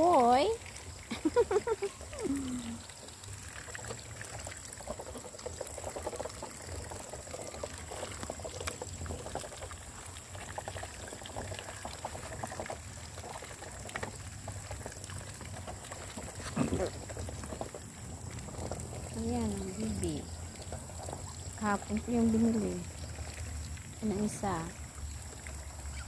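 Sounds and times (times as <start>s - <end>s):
ducks dabbling in wet feed: 0.0s - 26.0s.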